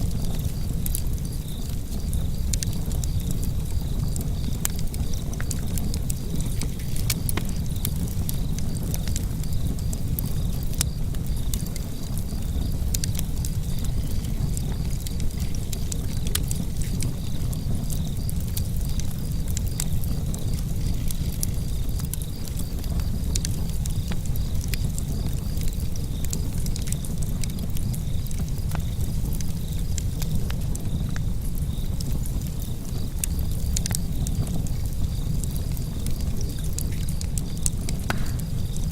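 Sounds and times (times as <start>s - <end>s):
burning logs crackling and popping: 0.0s - 38.9s
fire flames rumbling: 0.0s - 38.9s.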